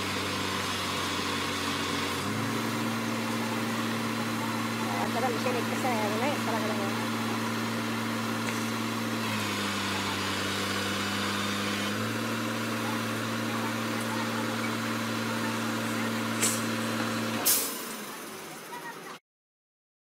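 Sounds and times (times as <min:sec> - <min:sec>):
diesel engine running: 0:00.0 - 0:19.2.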